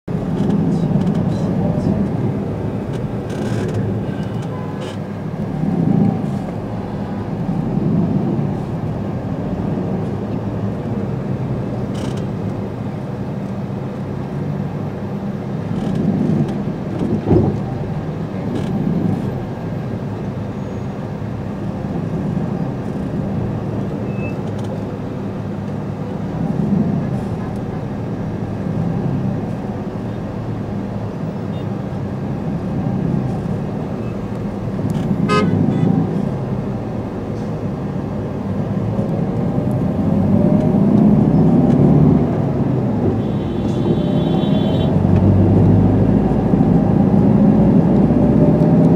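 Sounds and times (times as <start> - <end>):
surrounding road traffic: 0.0 - 48.9.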